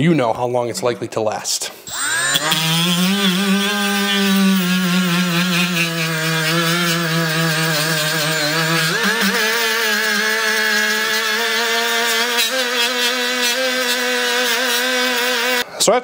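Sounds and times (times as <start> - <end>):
die grinder sanding metal: 1.9 - 15.6.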